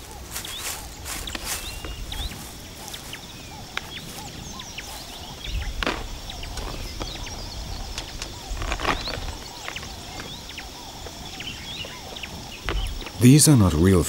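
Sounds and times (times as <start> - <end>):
many birds chirping: 0.0 - 14.0.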